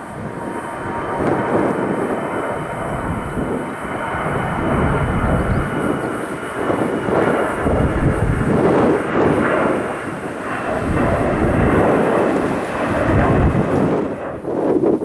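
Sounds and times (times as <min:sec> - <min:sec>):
airliner engines rumbling: 0:00.0 - 0:15.0.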